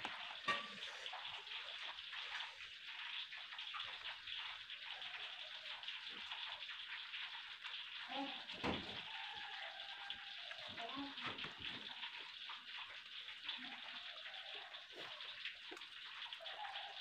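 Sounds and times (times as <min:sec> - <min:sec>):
soft rain patter: 0:00.0 - 0:17.0.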